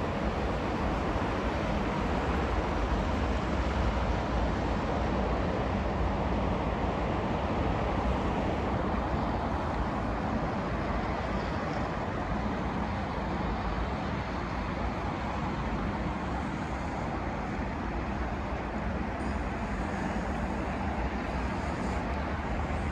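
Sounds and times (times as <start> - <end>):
highway traffic hum: 0.0 - 22.9.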